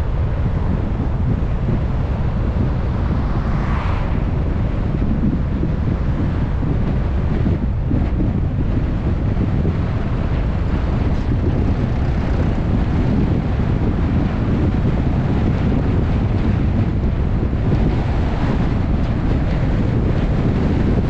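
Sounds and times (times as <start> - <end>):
road rumble: 0.0 - 21.0
wind rushing over microphone: 0.0 - 21.0.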